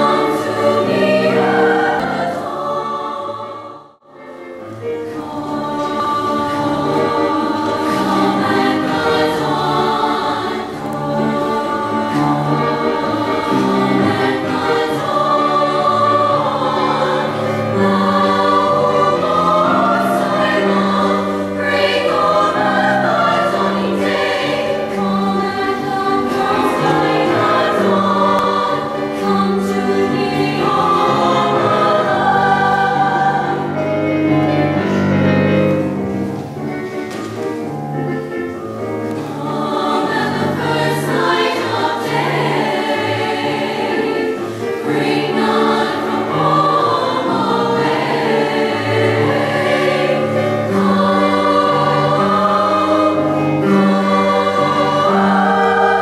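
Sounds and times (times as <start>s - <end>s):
girls' choir singing: 0.0s - 37.8s, 38.5s - 56.0s.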